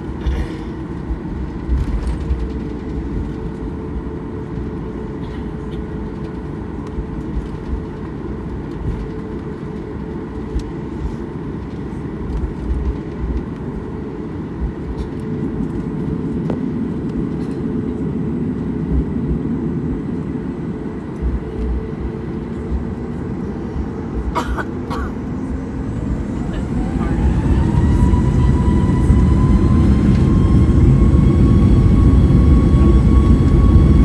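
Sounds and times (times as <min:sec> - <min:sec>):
jet engine drone: 0:00.0 - 0:34.0
steady whining tones: 0:00.8 - 0:34.0.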